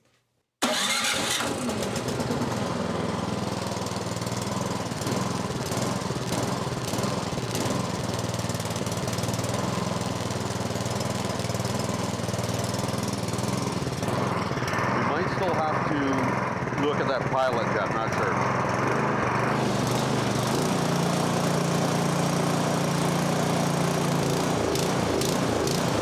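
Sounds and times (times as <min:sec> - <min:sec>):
electric starter cranking: 0:00.6 - 0:17.2, 0:18.2 - 0:26.0
small gas engine running: 0:00.6 - 0:26.0.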